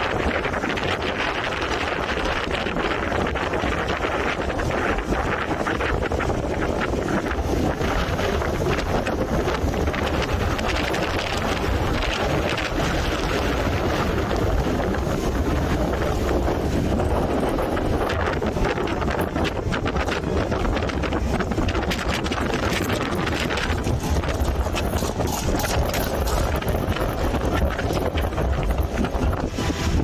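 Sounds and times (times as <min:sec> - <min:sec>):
deep rumble: 0:00.0 - 0:30.0
strong wind buffeting microphone: 0:00.0 - 0:30.0.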